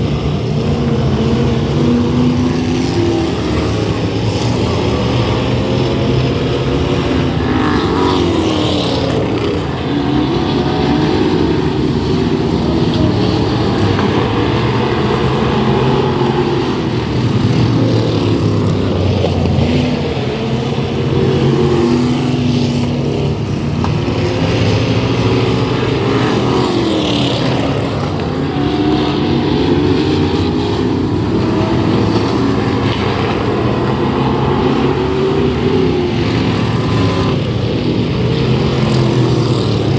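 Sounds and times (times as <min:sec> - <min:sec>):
race car engines passing: 0:00.0 - 0:39.9.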